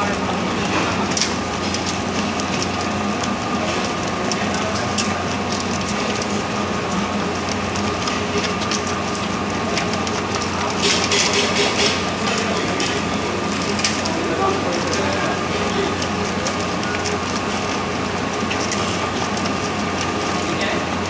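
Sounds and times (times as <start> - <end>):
mechanical rattle: 0.0 - 21.0
mixer motor hum: 0.0 - 21.0.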